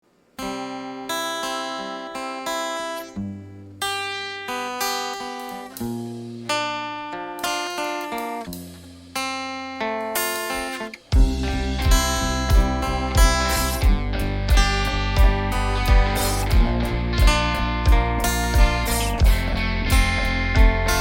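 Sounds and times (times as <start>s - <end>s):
acoustic guitar strumming: 0.3s - 21.0s.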